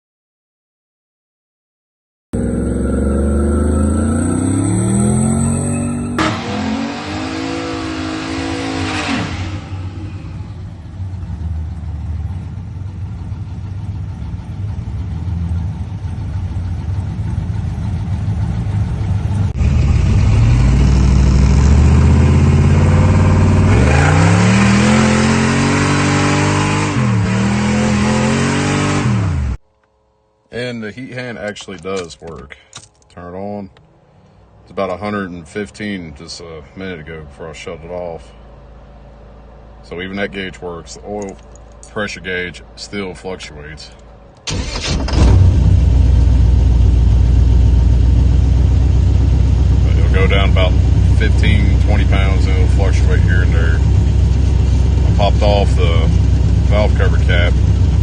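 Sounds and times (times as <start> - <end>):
car engine revving: 2.4 - 29.6, 36.9 - 58.0.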